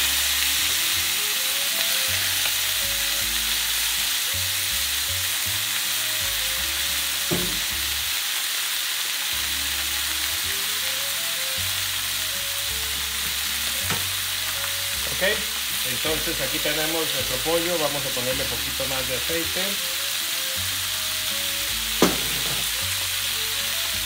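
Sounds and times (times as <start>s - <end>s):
soft background music: 0.0s - 8.1s, 9.3s - 24.0s
meat sizzling in a pan: 0.0s - 24.0s.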